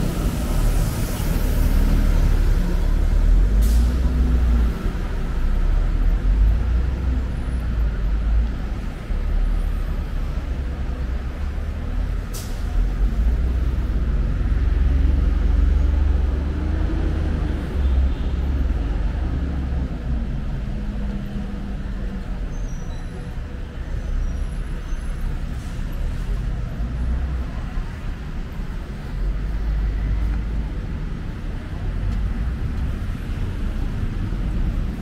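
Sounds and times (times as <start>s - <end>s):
buses and cars passing: 0.0s - 35.0s.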